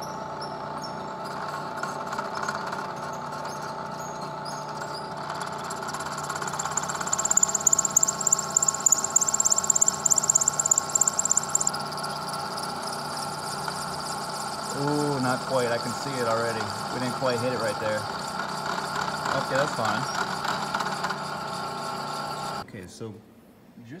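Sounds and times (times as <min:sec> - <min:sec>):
fly cutter cutting metal: 0:00.0 - 0:22.6
milling machine spindle whining: 0:00.0 - 0:22.6.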